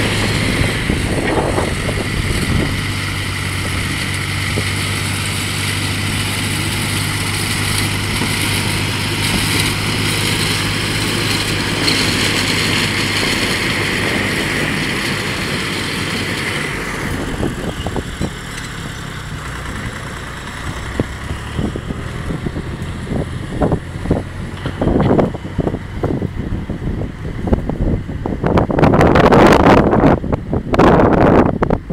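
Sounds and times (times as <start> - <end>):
tractor engine running: 0.0 - 31.9
wind buffeting microphone: 0.0 - 31.9.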